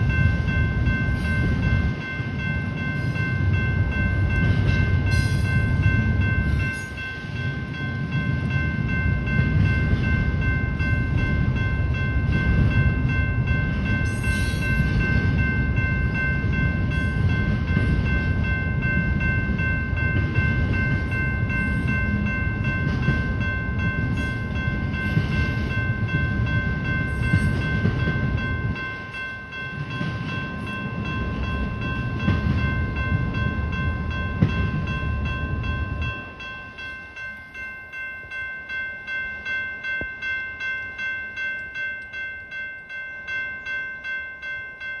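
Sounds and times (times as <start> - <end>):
freight train wagons rumbling: 0.0 - 45.0
railroad crossing bell ringing: 0.0 - 45.0.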